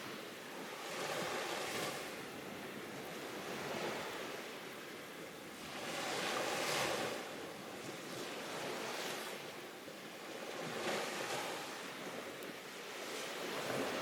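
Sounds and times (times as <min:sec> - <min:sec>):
waves washing on shore: 0:00.0 - 0:14.0
wind: 0:00.0 - 0:14.0.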